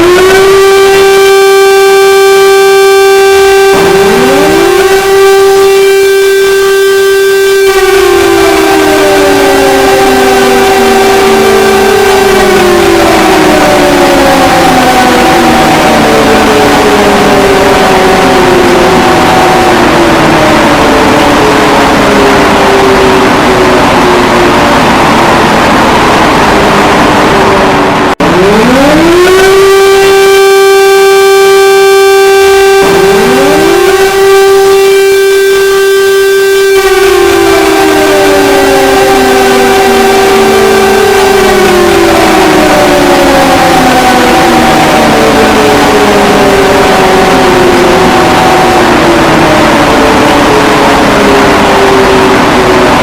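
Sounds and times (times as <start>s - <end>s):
emergency alarm siren: 0.0s - 53.0s
loud harsh noise: 0.0s - 53.0s.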